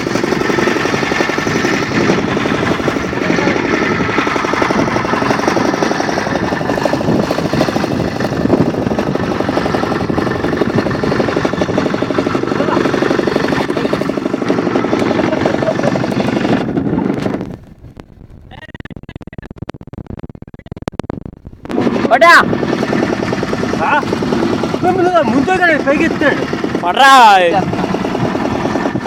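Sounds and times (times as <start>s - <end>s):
boat engine knocking: 0.0s - 29.0s.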